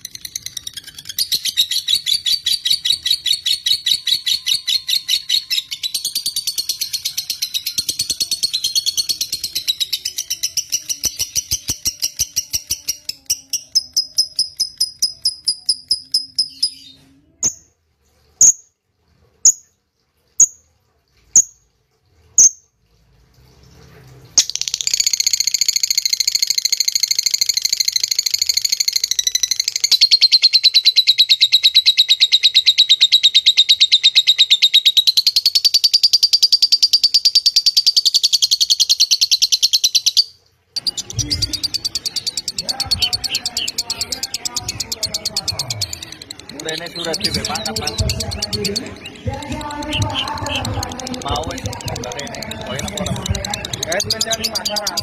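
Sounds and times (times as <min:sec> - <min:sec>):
bird chattering trill: 0:00.0 - 0:16.8, 0:24.4 - 0:55.0.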